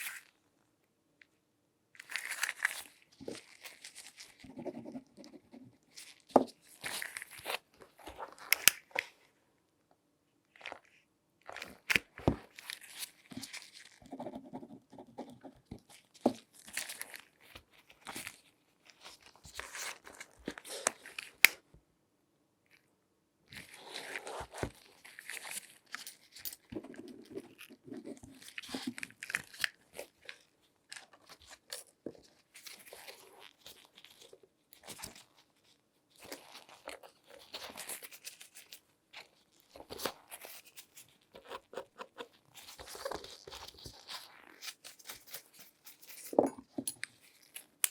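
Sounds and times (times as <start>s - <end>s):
gloved hands crinkling and rubbing: 2.0s - 4.4s, 5.9s - 9.2s, 10.5s - 14.1s, 15.8s - 21.6s, 23.6s - 47.9s.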